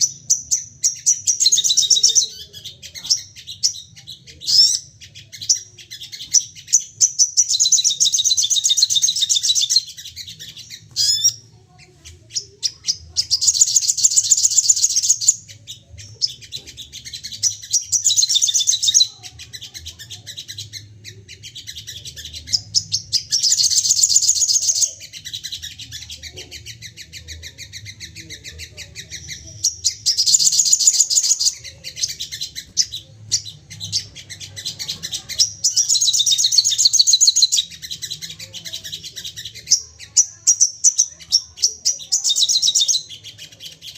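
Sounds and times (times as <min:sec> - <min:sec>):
songbird chattering song: 0:00.0 - 0:43.9.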